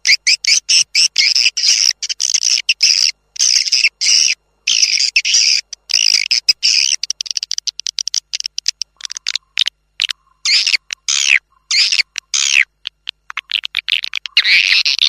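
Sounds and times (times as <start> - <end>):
swiftlets twittering calls: 0.0 - 15.0.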